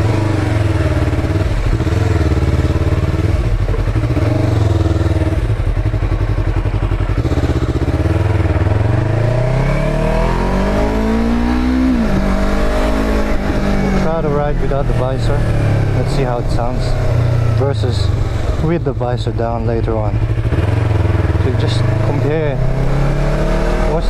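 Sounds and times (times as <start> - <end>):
motorcycle engine and exhaust: 0.0 - 24.0.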